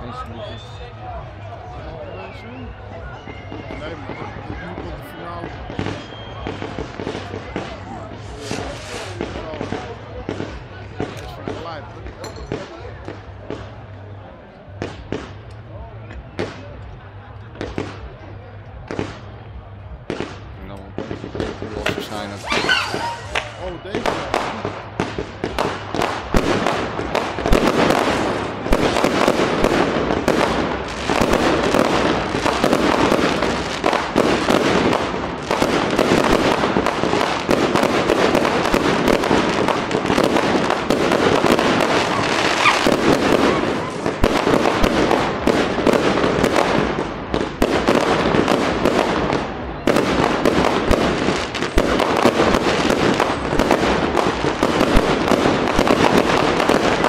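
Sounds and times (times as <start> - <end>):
firework bursts and crackling: 0.0 - 57.0.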